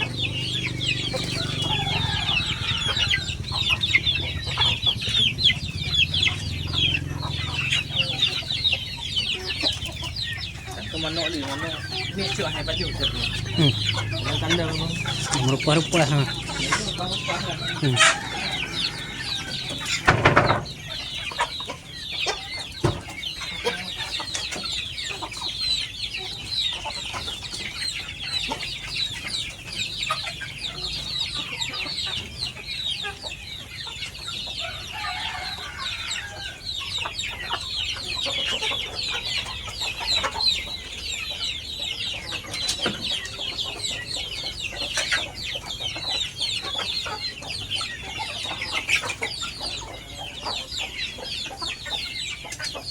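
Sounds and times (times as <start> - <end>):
chickens clucking and calling: 0.0 - 52.9.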